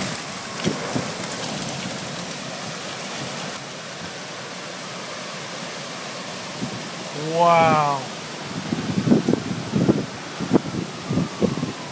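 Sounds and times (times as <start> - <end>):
heavy rain hissing: 0.0 - 11.9.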